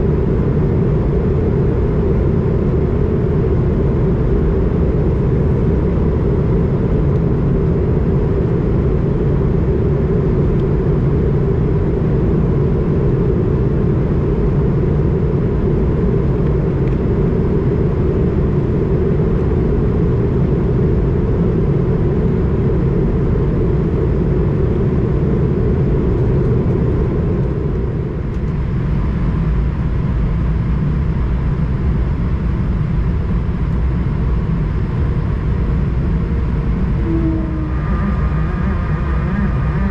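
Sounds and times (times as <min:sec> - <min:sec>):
airplane cabin airflow rush: 0:00.0 - 0:39.9
jet engine noise: 0:00.0 - 0:39.9.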